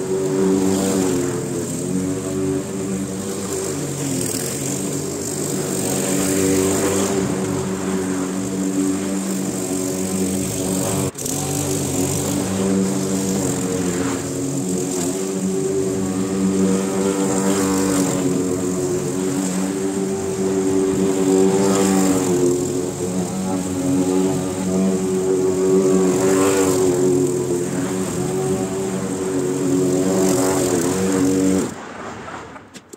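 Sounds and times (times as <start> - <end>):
lawn mower cutting grass: 0.0 - 32.0.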